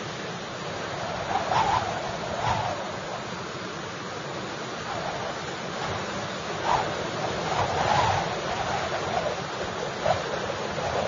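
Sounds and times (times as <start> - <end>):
storm wind whistling in gusts: 0.0 - 11.0.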